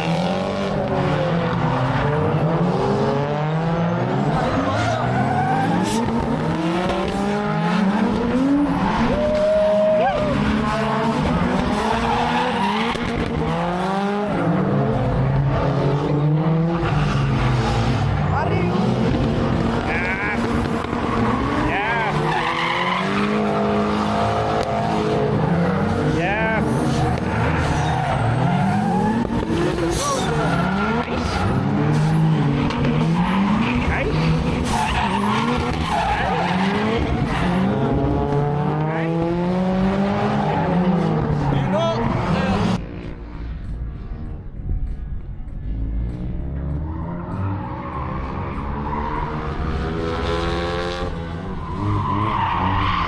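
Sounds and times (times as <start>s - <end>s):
go-kart engines revving: 0.0s - 43.0s, 46.5s - 53.0s.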